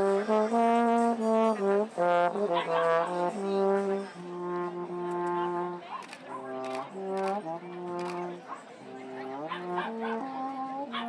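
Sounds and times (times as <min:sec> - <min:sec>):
brass instrument playing slow tune: 0:00.0 - 0:11.0.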